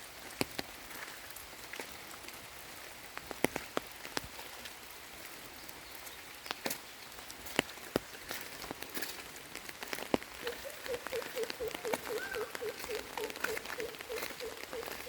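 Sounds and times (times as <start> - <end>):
rain falling on vegetation: 0.0 - 15.0
sharp raindrop ticks: 0.0 - 15.0.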